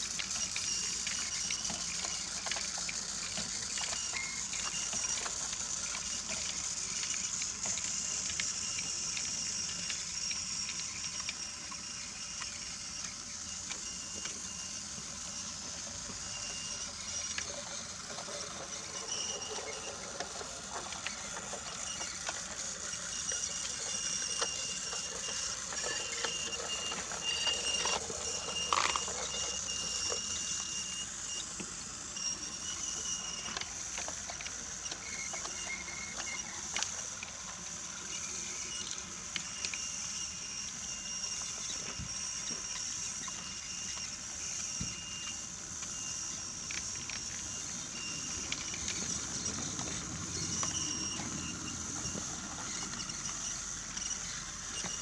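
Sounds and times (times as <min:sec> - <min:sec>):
toy train motor whir: 0:00.0 - 0:55.0
wheels clicking over track joints: 0:00.0 - 0:55.0.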